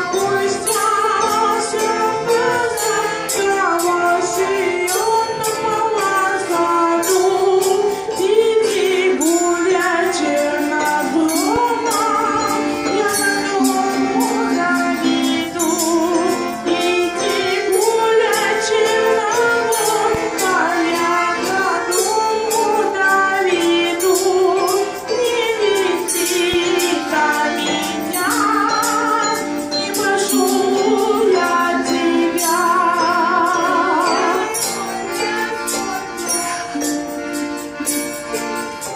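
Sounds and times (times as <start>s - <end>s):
children's choir singing folk song: 0.0s - 38.9s
instrumental accompaniment: 0.0s - 38.9s.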